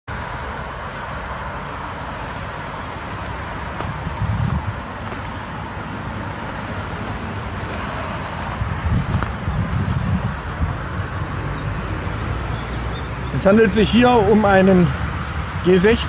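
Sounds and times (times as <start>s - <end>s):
road traffic noise: 0.1s - 16.0s
wind buffeting microphone: 1.3s - 16.0s.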